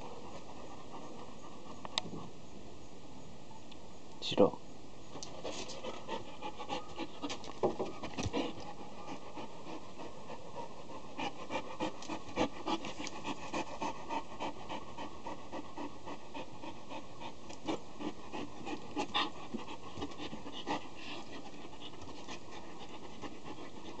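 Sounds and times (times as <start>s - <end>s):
dog panting: 0.0s - 2.4s, 5.2s - 24.0s.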